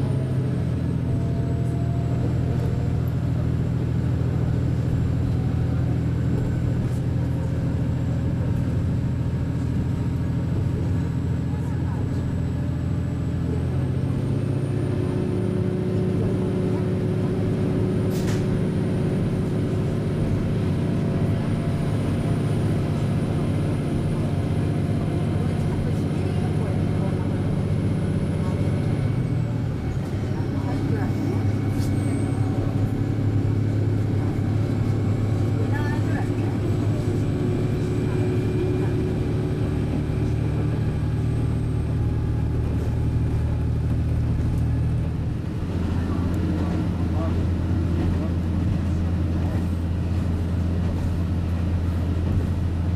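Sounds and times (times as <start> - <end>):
rail noise: 0.0 - 52.9
train engine drone: 0.0 - 52.9.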